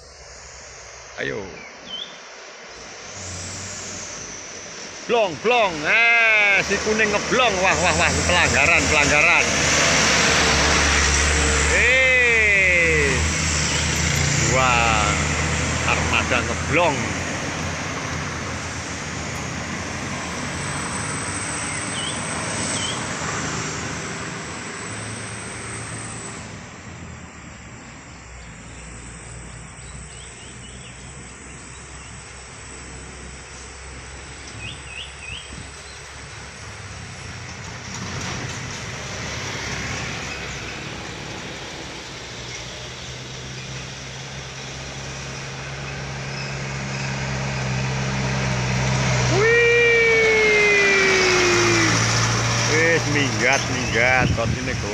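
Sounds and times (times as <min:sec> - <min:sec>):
heavy vehicle engine drone: 0:00.0 - 0:54.9.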